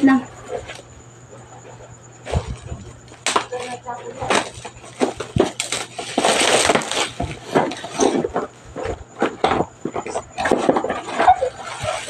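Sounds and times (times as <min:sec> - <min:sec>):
plastic packaging crinkling: 0:02.3 - 0:12.0.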